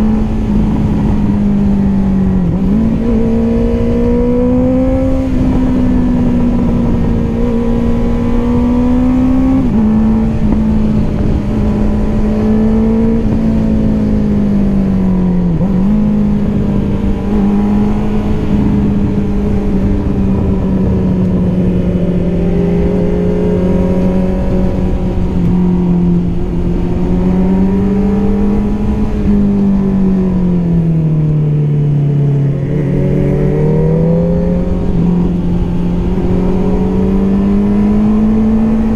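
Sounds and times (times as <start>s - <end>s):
motorcycle engine under way: 0.0s - 38.9s
wind rush: 0.0s - 38.9s.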